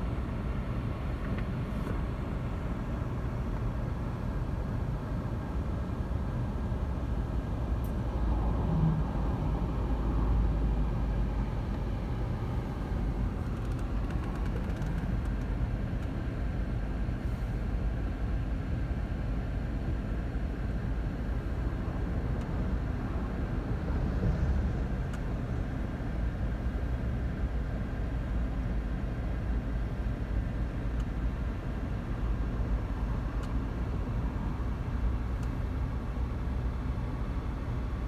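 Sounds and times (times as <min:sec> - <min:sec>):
road and engine rumble in car: 0:00.0 - 0:38.0.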